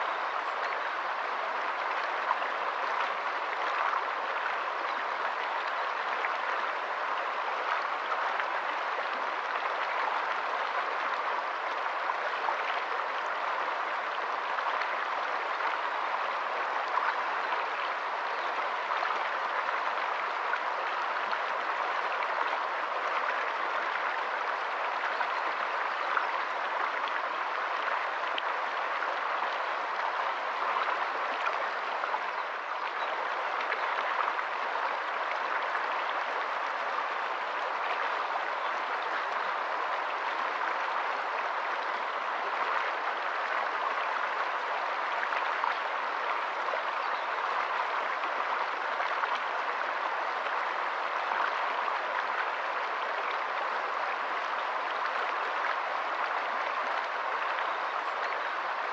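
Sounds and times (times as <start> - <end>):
stream flowing over stones: 0.0 - 58.9.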